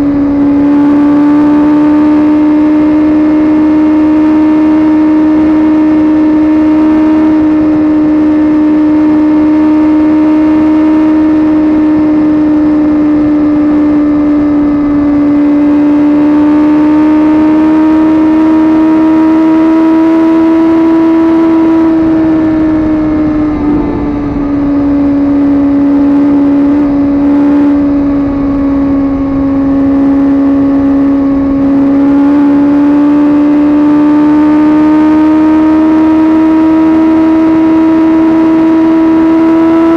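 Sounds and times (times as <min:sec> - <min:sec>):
motorcycle engine running hard: 0:00.0 - 0:39.9
wind and road noise: 0:00.0 - 0:39.9.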